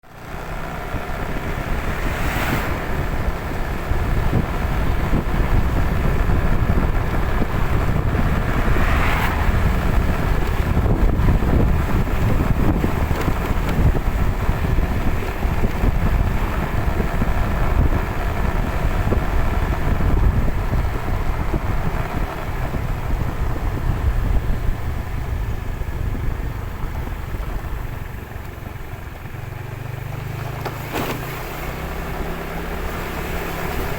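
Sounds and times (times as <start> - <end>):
vehicle running on road: 0.0 - 33.9
wind buffeting microphone: 1.0 - 29.8.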